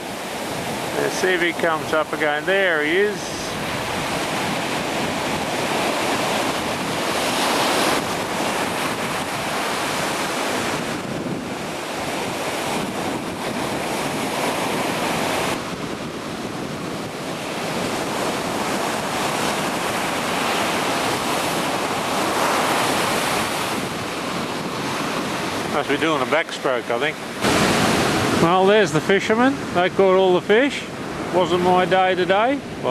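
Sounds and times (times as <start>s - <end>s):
ocean surf washing in: 0.0s - 32.9s
wind buffeting microphone: 0.0s - 32.9s.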